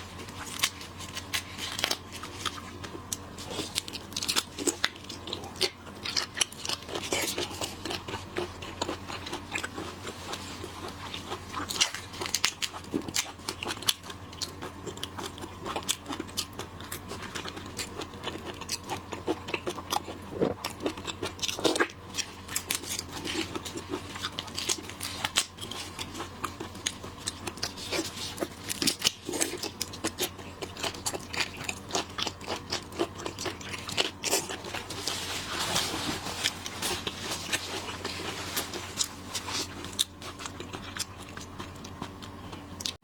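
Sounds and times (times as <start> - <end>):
crunching and chewing shellfish: 0.0 - 43.0.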